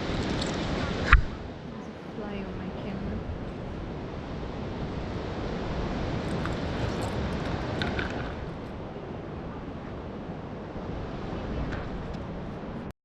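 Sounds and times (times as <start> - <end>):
sea surf washing on shore: 0.0 - 12.9
wind on microphone: 0.0 - 12.9.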